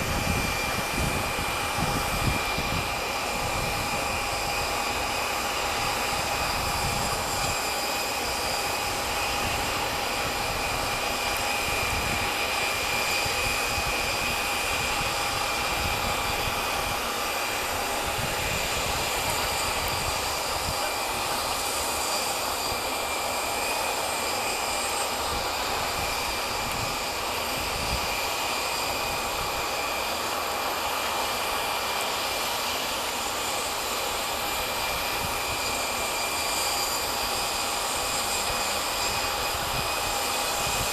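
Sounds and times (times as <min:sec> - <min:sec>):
jet engines rushing and whining: 0:00.0 - 0:40.9.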